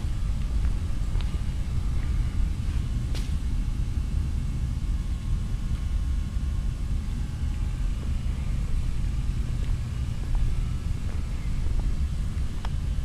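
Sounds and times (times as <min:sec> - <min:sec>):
light aircraft engine rumble: 0:00.0 - 0:13.0.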